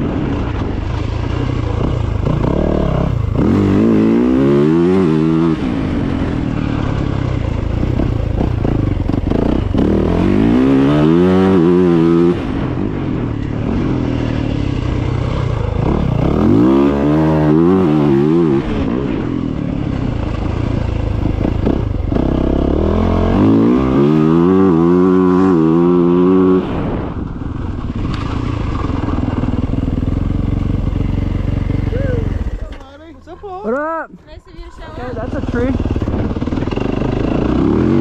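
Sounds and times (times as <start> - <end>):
dirt bike engine revving: 0.0 - 32.8, 34.7 - 38.0.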